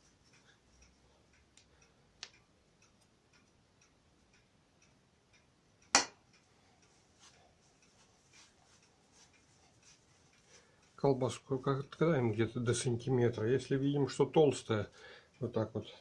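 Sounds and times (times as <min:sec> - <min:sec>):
faint even ticking: 0:00.0 - 0:16.0.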